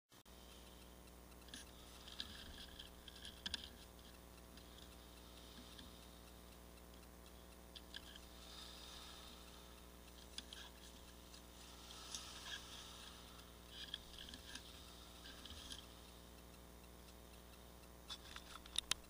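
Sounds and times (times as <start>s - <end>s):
camera electronic hum: 0.2s - 19.0s.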